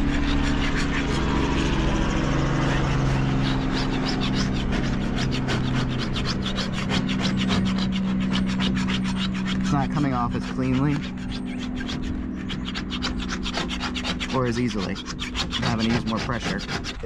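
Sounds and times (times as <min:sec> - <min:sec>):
low engine-like hum: 0:00.0 - 0:17.0
plastic scraper rasping on paint: 0:00.0 - 0:17.0.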